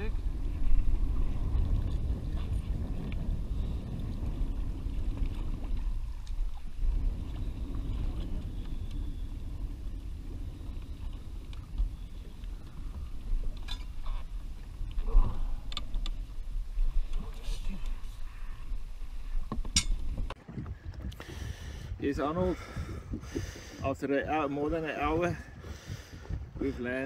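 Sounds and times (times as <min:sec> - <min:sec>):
water lapping against boat hull: 0:00.0 - 0:27.0
wind rumble on microphone: 0:00.0 - 0:27.0.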